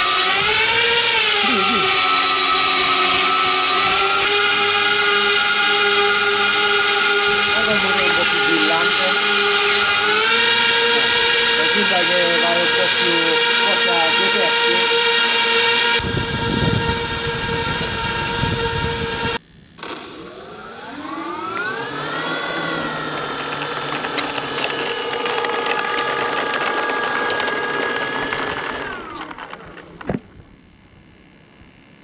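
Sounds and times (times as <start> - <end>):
model airplane motors whining: 0.0 - 32.0.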